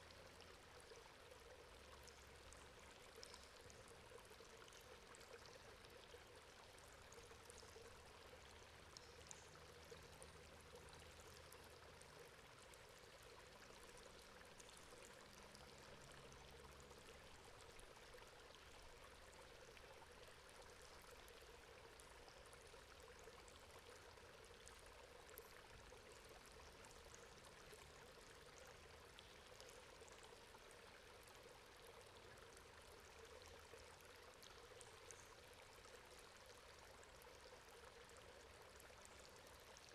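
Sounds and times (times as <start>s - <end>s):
water drips and splashes: 0.0s - 39.9s.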